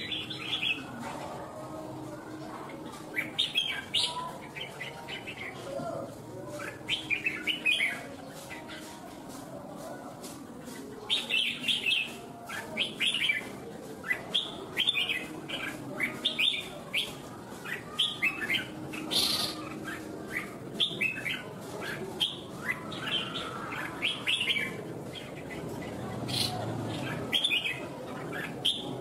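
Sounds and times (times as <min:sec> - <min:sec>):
bird chirping song: 0:00.0 - 0:01.1, 0:02.9 - 0:09.4, 0:11.1 - 0:29.0.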